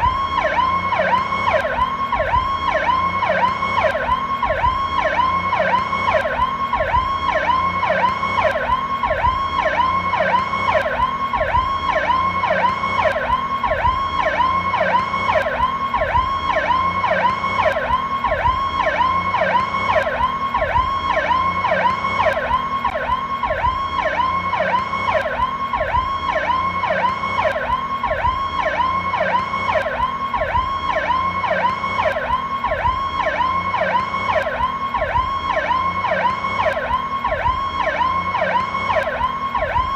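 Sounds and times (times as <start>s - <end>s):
fast sweeping electronic siren: 0.0s - 39.9s.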